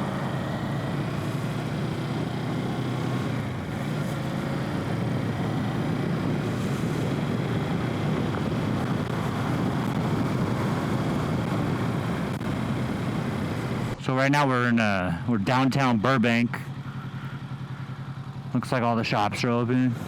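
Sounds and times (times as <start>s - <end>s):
motorcycle engine running: 0.0s - 20.0s
road noise: 0.0s - 20.0s.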